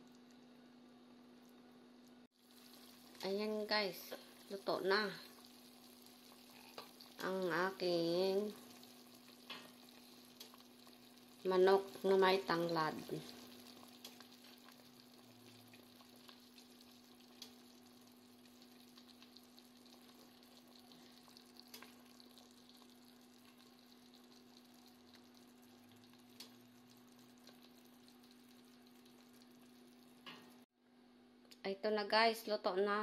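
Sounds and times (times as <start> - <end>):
soup simmering with small pops: 0.0 - 30.7.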